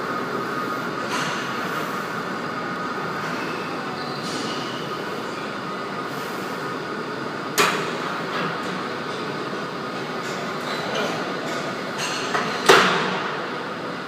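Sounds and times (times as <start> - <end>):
gym background noise: 0.0 - 14.0.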